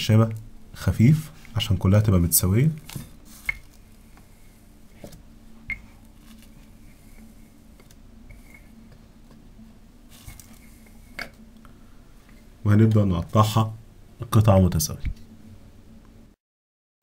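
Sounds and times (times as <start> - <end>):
low steady hum: 0.0 - 16.4.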